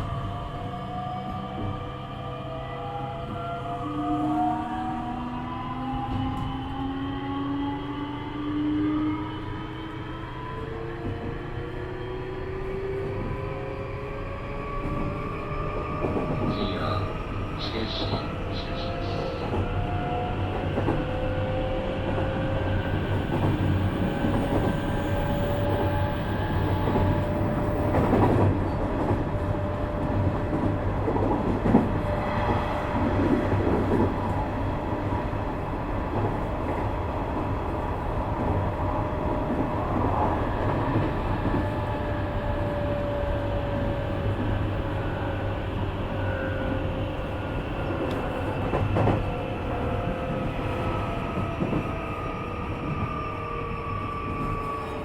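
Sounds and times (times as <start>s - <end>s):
train running noise: 10.8s - 55.0s.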